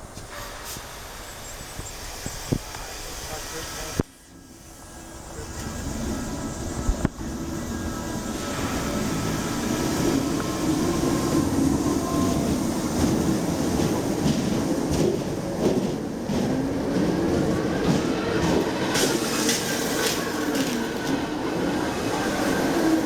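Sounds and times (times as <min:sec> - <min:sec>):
electric train pulling away: 0:00.0 - 0:23.0.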